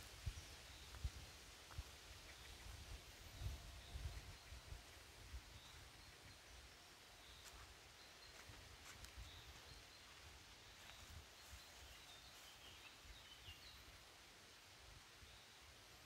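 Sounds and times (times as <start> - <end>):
faint bird chirps: 0.0 - 14.2.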